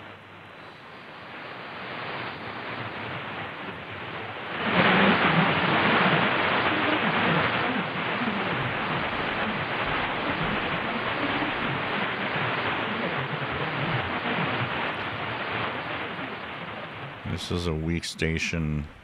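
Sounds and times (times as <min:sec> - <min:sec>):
radio static hiss: 0:00.0 - 0:19.0
weak radio broadcast: 0:00.0 - 0:19.0.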